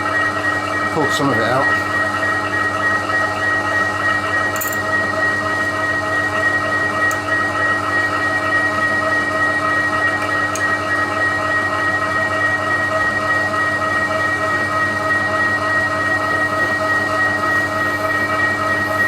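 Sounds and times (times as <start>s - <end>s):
milling machine whine: 0.0s - 19.0s.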